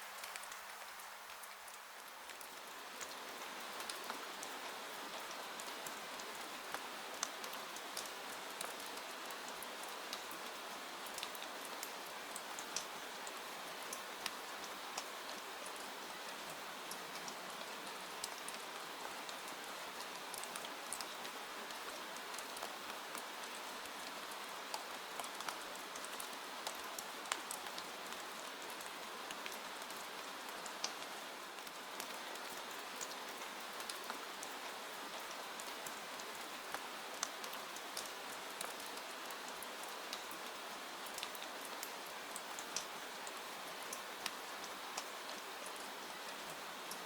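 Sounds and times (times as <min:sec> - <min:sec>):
raindrops ticking on surface: 0:00.0 - 0:47.0
steady rain hiss: 0:00.0 - 0:47.0.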